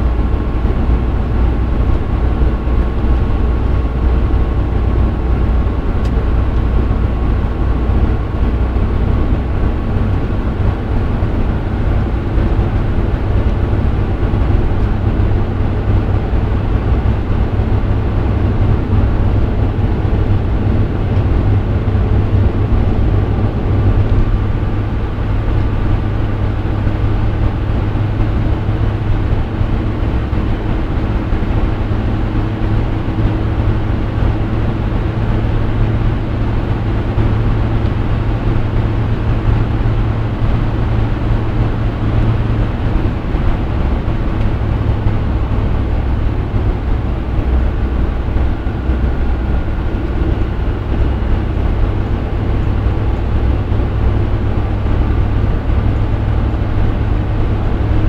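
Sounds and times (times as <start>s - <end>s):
vehicle running noise: 0.0s - 58.0s.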